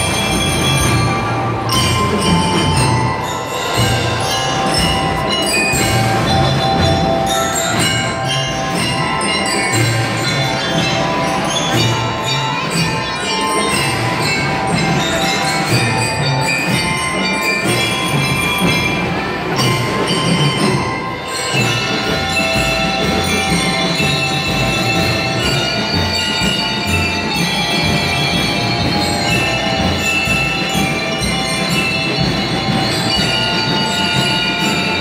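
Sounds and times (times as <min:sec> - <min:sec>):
bell-lyres ringing melody: 0:00.0 - 0:35.0
snare drums: 0:00.0 - 0:35.0.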